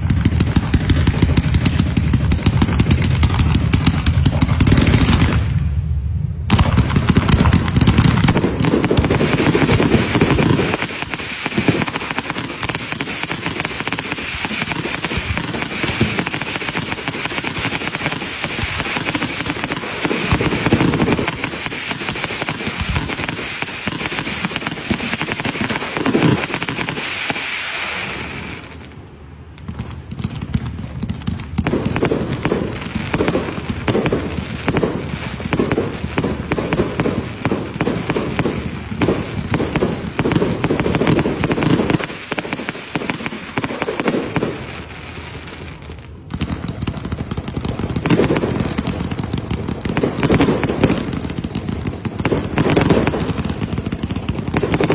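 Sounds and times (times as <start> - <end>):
fireworks thumps and crackling: 0.0 - 5.6, 6.5 - 54.9.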